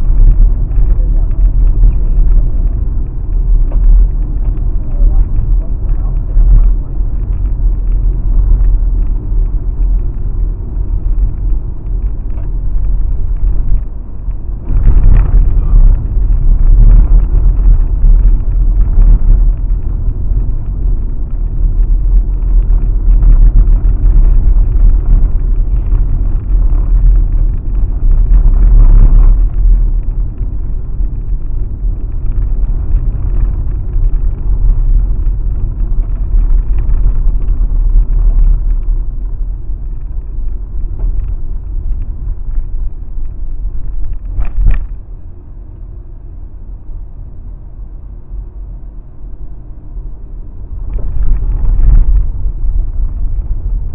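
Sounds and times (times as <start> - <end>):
car rumbling on gravel: 0.0 - 53.9.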